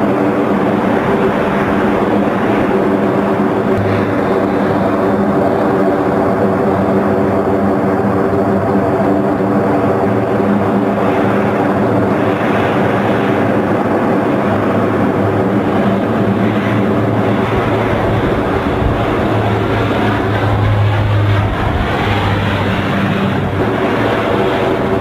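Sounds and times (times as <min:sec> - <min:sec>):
aircraft engines droning: 0:00.0 - 0:25.0.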